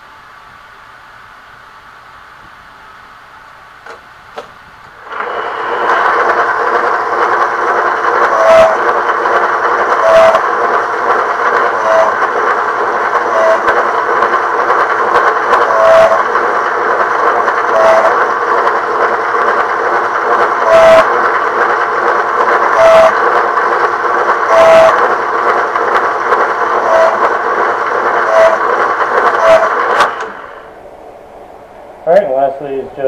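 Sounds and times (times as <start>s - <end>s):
drill press running: 2.4s - 33.0s.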